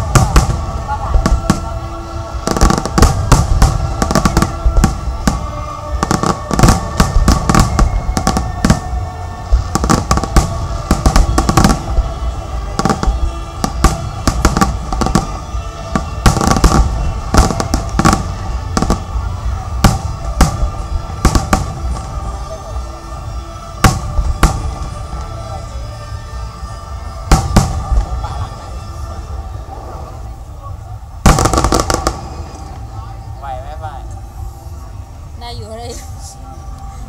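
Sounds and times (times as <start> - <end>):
fireworks bangs and crackles: 0.0 - 35.0
music playing: 0.0 - 37.0.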